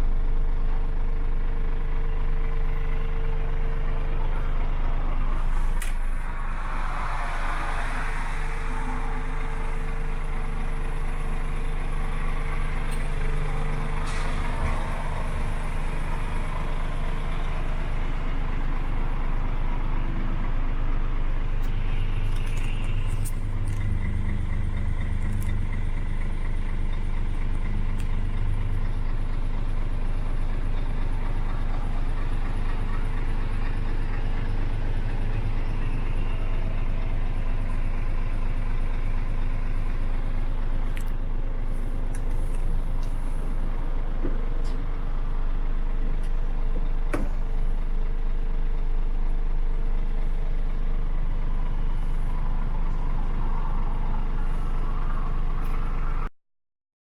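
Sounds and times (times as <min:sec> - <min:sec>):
diesel truck engine idling: 0:00.0 - 0:56.3.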